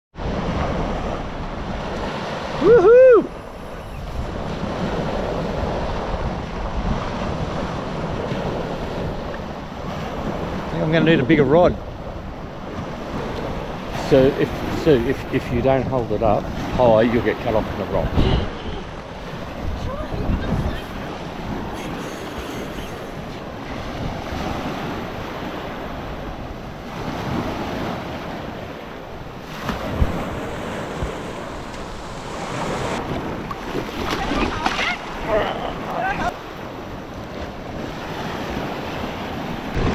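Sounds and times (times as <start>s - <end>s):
waves washing on beach: 0.2s - 39.9s
wind buffeting microphone: 0.2s - 39.9s.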